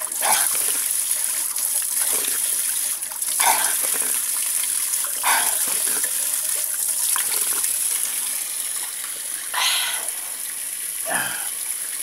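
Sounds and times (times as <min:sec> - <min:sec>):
spring water running: 0:00.0 - 0:12.0.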